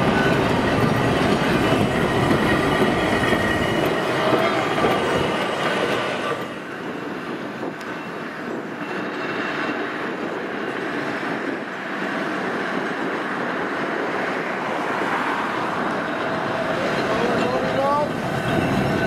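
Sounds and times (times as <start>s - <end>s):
electric tram rumbling on rails: 0.0s - 19.0s.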